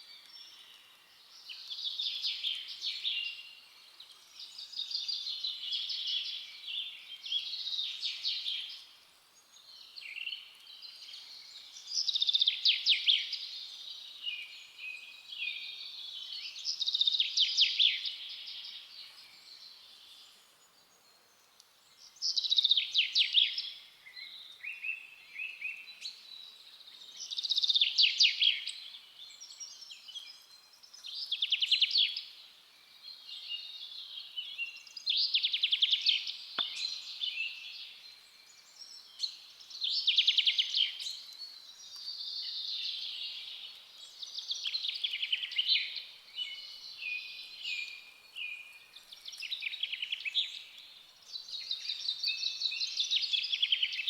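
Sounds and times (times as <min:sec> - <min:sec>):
birds twittering softly: 0:00.0 - 0:54.0.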